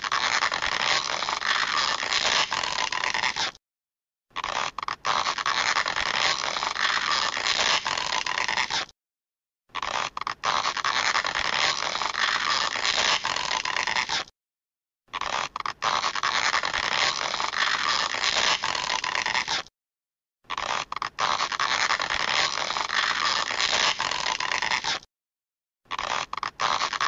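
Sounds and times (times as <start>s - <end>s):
scraping creaking stretch: 0.0s - 3.6s, 4.4s - 8.9s, 9.7s - 14.3s, 15.1s - 19.7s, 20.5s - 25.1s, 25.9s - 27.0s.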